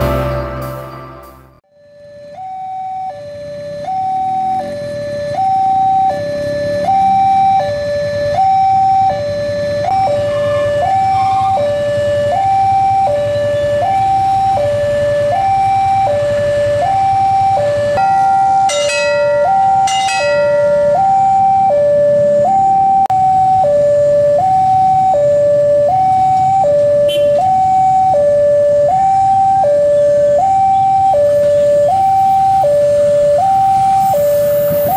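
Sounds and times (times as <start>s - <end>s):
level crossing two-tone alarm: 1.8s - 34.9s.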